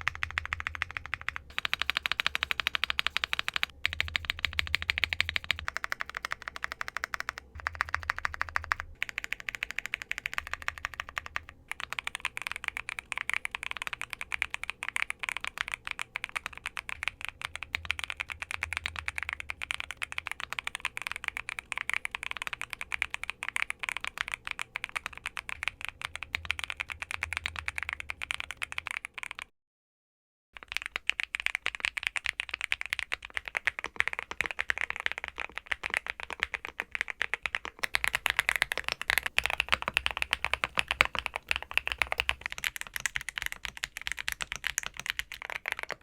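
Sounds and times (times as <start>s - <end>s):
mechanical keyboard typing: 0.0s - 29.5s, 30.6s - 46.0s.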